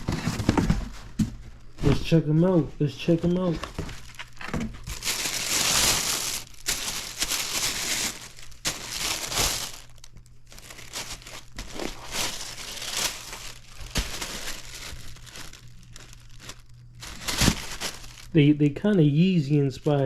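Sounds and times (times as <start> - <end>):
packaging crinkling: 0.0 - 20.0.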